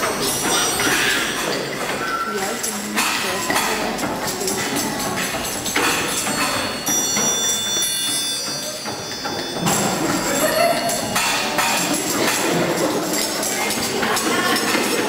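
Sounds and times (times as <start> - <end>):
high metallic ringing: 0.0 - 14.1
percussion jangling and rattling: 0.0 - 15.0.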